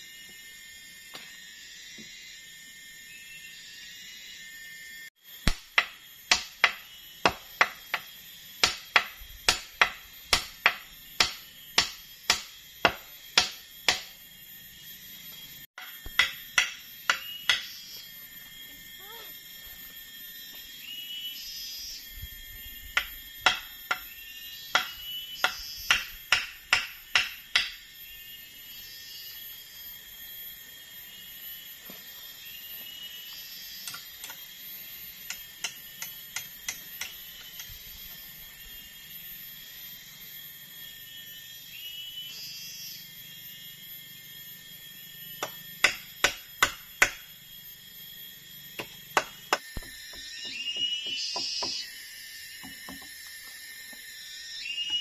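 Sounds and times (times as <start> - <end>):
high-pitched background drone: 0.0 - 55.0.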